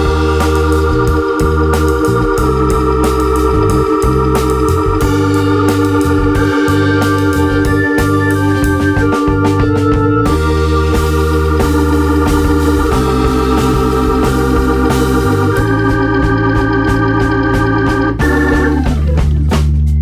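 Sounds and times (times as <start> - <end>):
organ-like chords over bass: 0.0 - 20.0.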